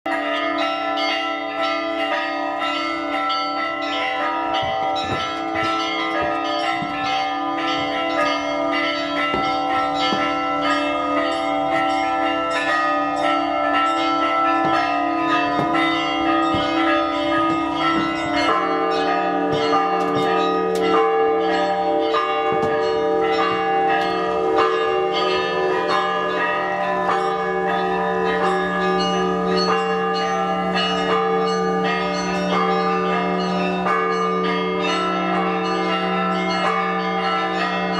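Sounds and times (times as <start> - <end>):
church bells pealing: 0.1 - 37.9
deep bell tone: 0.1 - 37.9.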